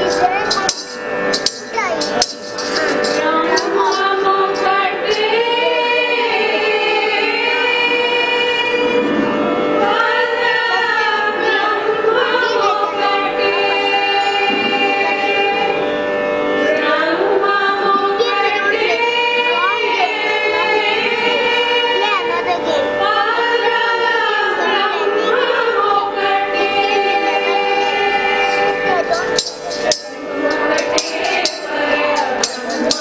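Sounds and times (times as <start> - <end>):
steady drone: 0.0 - 33.0
women singing devotional song: 0.4 - 33.0.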